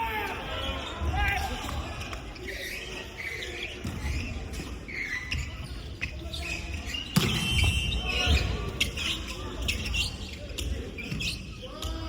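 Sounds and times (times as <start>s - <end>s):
sneakers squeaking on court: 2.0s - 12.0s.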